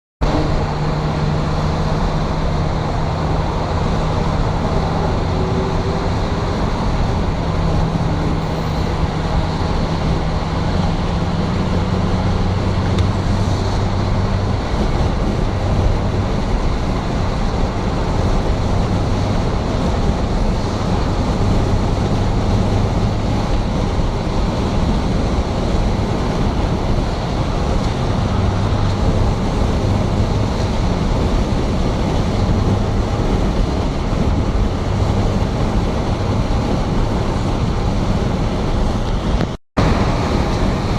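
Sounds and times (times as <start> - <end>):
rain and wind rushing: 0.2 - 40.9
vehicle engine hum: 0.2 - 40.9.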